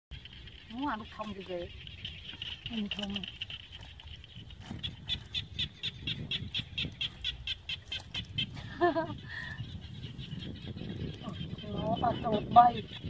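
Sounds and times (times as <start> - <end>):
high repeated animal chirping: 0.1 - 8.6, 9.6 - 13.0.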